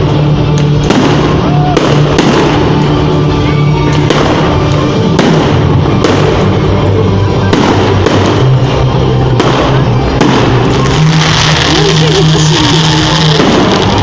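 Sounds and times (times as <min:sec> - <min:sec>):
fireworks bangs: 0:00.0 - 0:14.0
loud music with bass: 0:00.0 - 0:14.0.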